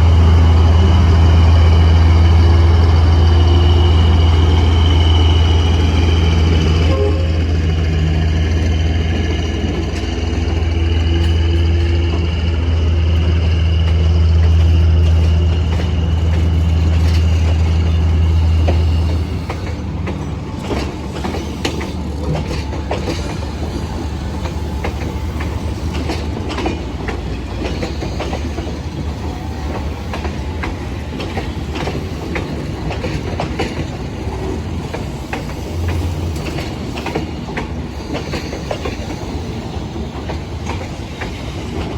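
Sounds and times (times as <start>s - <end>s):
locomotive engine droning: 0.0s - 37.5s
train wheels clicking over rail joints: 1.0s - 41.9s.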